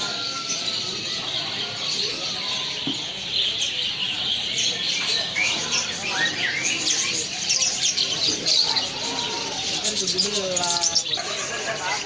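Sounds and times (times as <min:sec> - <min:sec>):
songbirds chirping in chorus: 0:00.0 - 0:12.0.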